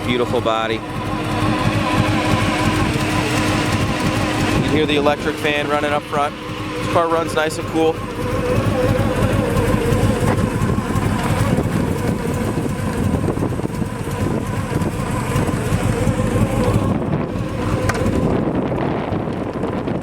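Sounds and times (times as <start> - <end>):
engine idling: 0.0 - 20.0
radiator fan whining: 0.0 - 20.0.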